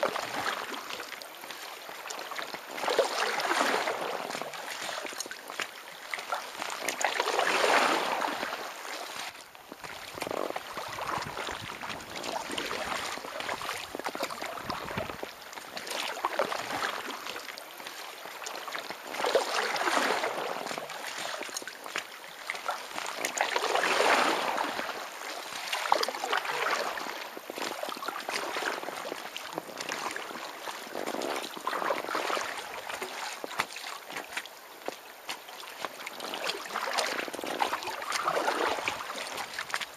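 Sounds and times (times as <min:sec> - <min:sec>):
paddle strokes splashing water: 0:00.0 - 0:39.9.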